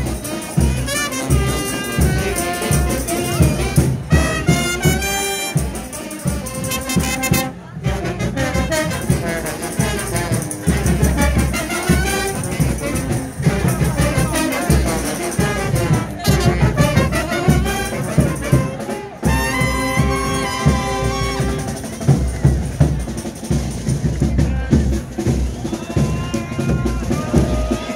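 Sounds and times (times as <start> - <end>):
brass band playing: 0.0 - 27.9
drum beat: 0.0 - 27.9.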